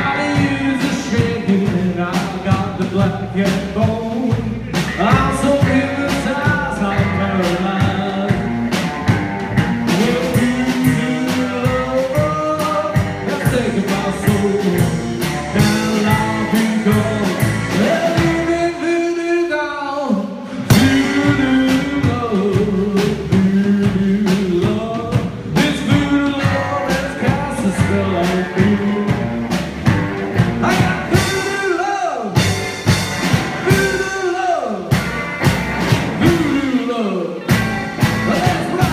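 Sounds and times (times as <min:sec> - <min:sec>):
electric guitar: 0:00.0 - 0:18.9, 0:20.5 - 0:31.7, 0:32.3 - 0:38.9
upright double bass: 0:00.0 - 0:19.1, 0:20.5 - 0:36.8, 0:37.4 - 0:38.9
drum kit: 0:00.0 - 0:19.2, 0:20.4 - 0:38.9.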